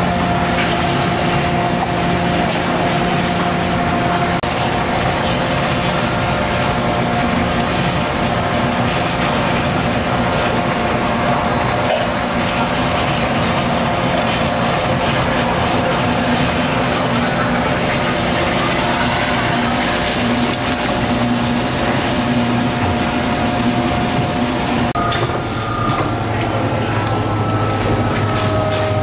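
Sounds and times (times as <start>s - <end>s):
constant hum: 0.0s - 29.0s
stove roaring: 0.0s - 29.0s.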